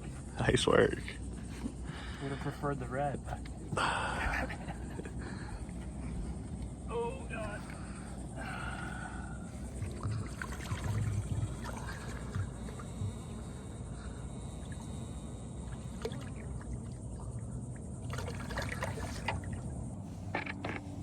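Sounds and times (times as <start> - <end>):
water lapping against boat hull: 0.0 - 21.0
low rumble: 3.4 - 20.3.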